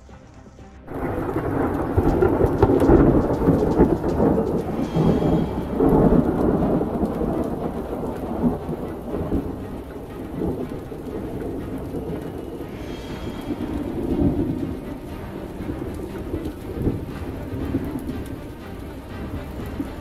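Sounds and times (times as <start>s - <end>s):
steady rain: 0.9s - 20.0s
thunder rumbling: 0.9s - 20.0s.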